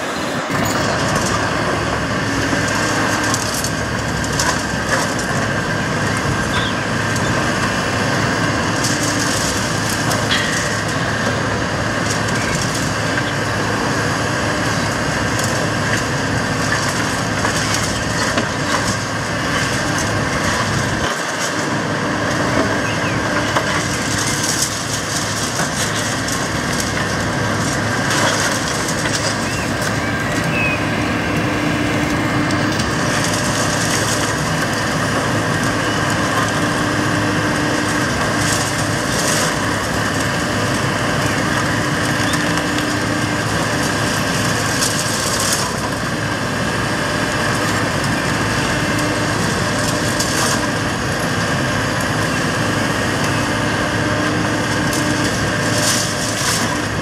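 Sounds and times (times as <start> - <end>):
excavator running: 0.0 - 57.0
concrete cracking and crunching: 0.5 - 57.0.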